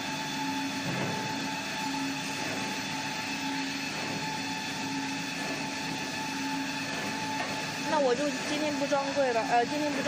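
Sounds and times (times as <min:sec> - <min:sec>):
machine saw humming: 0:00.0 - 0:10.0.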